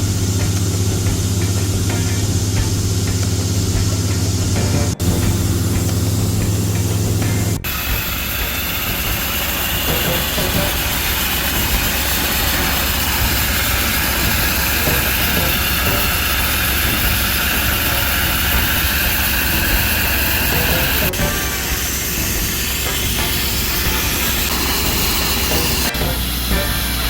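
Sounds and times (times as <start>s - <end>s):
compressor rumble: 0.0s - 27.0s
dry ice blasting nozzle hiss: 0.0s - 27.0s.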